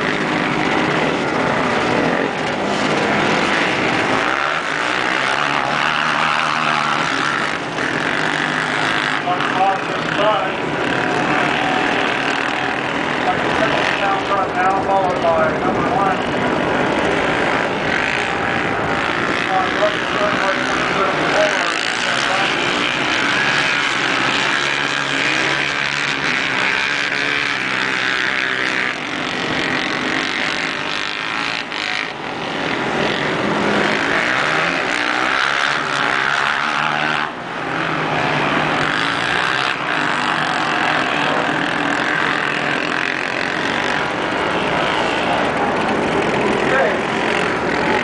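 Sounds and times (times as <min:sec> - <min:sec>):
quad engines revving: 0:00.0 - 0:48.0.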